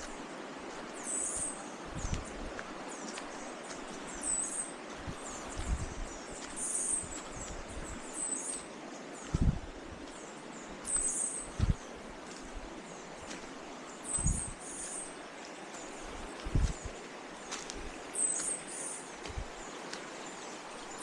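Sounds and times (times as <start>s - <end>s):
birds chirping: 0.0s - 21.0s
steady rushing hiss: 0.0s - 21.0s.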